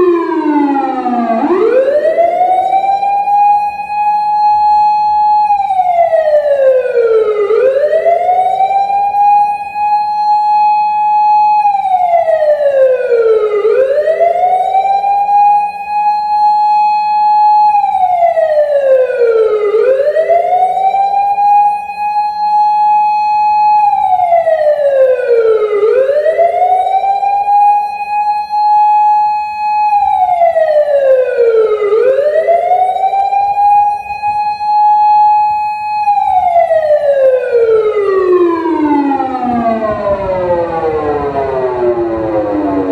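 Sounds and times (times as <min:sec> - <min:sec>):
electronic wailing siren: 0:00.0 - 0:42.9.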